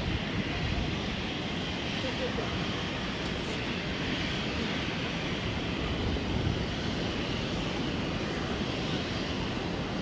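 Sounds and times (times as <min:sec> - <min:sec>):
jet engines rumbling and hissing: 0:00.0 - 0:10.0.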